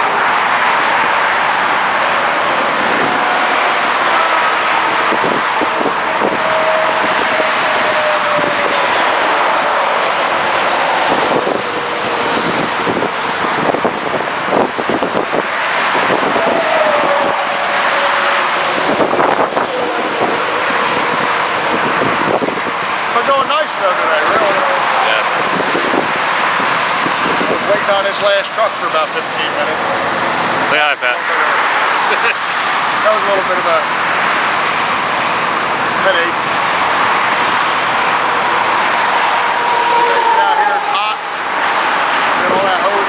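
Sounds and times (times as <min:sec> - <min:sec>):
highway traffic passing: 0:00.0 - 0:43.0.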